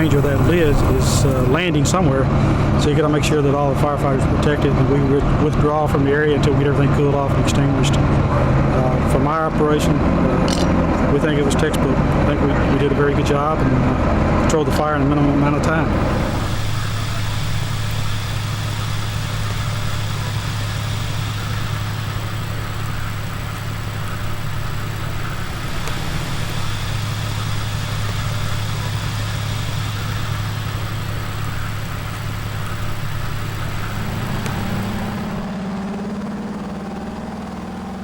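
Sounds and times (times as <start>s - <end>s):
large engine idling: 0.0s - 38.0s.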